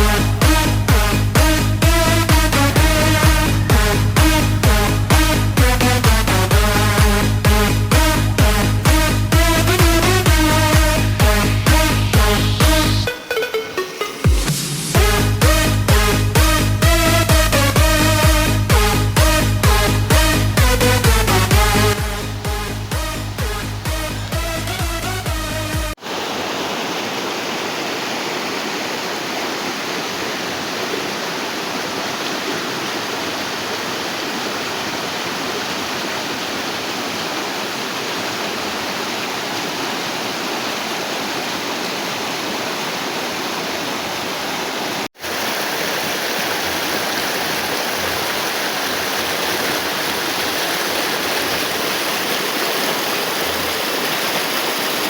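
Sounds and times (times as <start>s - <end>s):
stream rushing over rocks: 0.0s - 18.6s, 19.2s - 25.2s, 25.9s - 55.0s.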